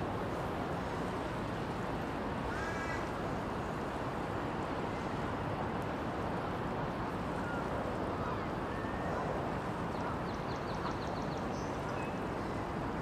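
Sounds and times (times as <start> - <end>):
waterfront rumble and hiss: 0.0 - 13.0.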